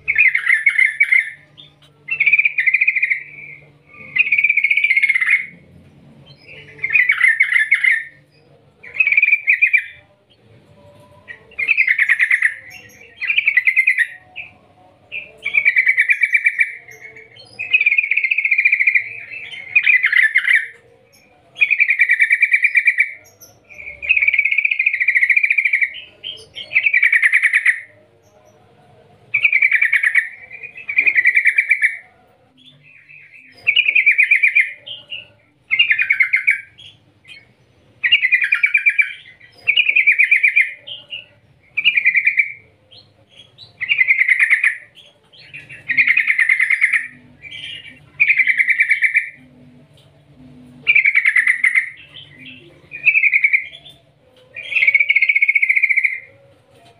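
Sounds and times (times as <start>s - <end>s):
bird singing trilled phrases: 0.0s - 10.2s, 10.8s - 28.6s, 29.3s - 50.0s, 50.7s - 56.4s.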